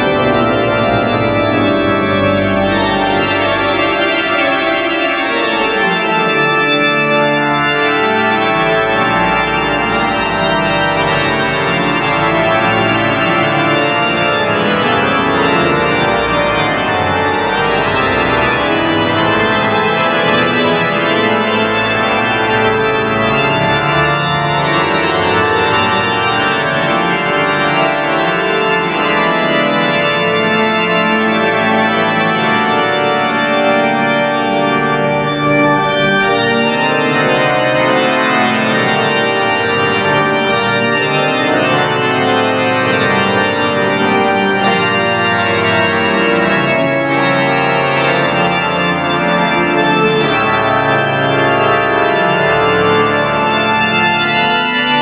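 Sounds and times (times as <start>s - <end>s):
church organ playing: 0.0s - 55.0s.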